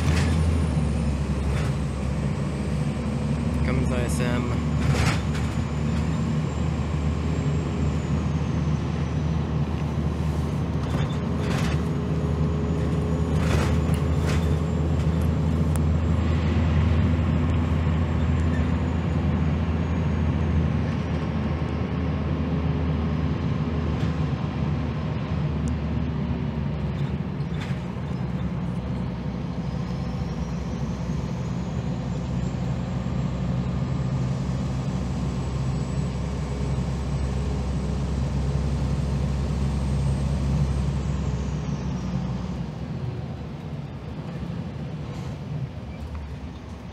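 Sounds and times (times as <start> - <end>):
bus diesel engine drone: 0.0 - 46.9.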